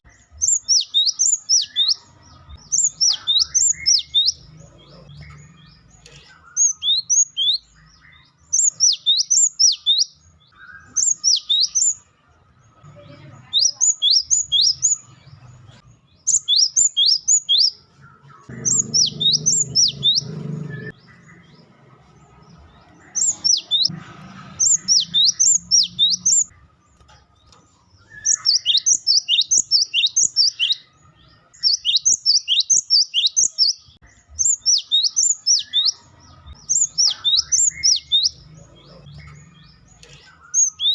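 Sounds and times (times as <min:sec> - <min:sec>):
bird chirp series: 0:00.0 - 0:40.9.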